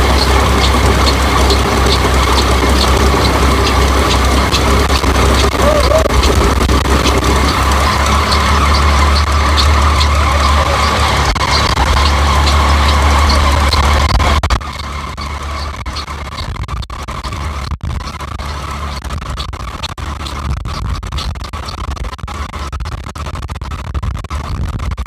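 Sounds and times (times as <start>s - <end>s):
combine harvester engine running: 0.0s - 24.5s
faint rhythmic ticking: 0.0s - 24.9s.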